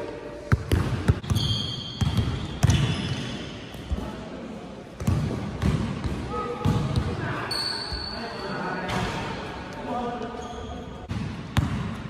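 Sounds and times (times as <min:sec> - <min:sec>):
sneakers squeaking: 0:00.4 - 0:04.1, 0:05.0 - 0:09.5, 0:10.1 - 0:12.0.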